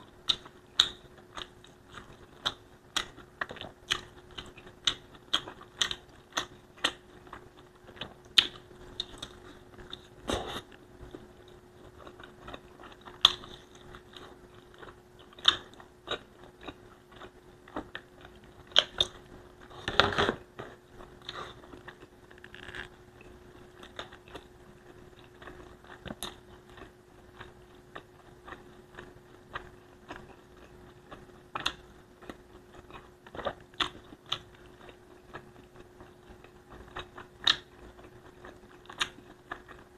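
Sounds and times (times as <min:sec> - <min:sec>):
faint steady hum: 0:00.0 - 0:39.9
person chewing and biting: 0:00.2 - 0:20.0, 0:20.9 - 0:24.5, 0:25.1 - 0:39.9.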